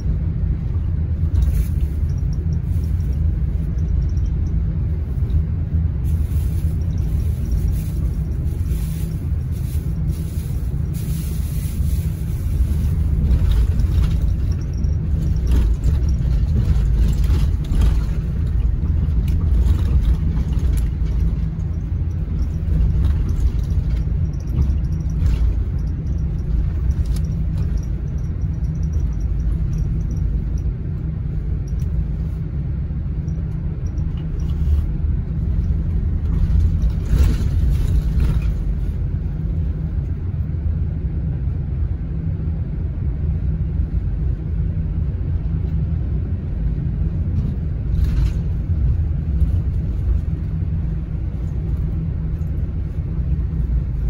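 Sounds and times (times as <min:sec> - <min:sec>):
coach engine and road rumble: 0:00.0 - 0:54.0.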